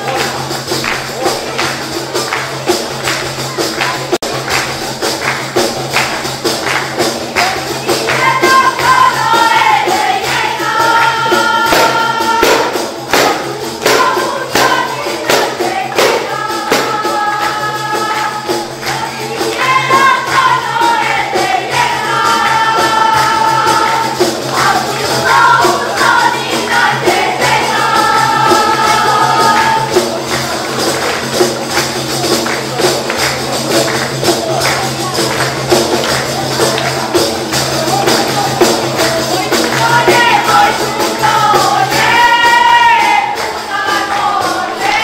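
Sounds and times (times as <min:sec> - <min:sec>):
frame drums beating: 0:00.0 - 0:45.0
group of voices singing: 0:00.0 - 0:45.0.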